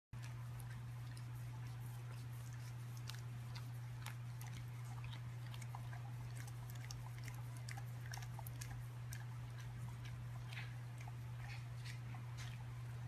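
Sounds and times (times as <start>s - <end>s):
chewing clicks and crunches: 0.2s - 13.0s
steady low hum: 0.2s - 13.0s.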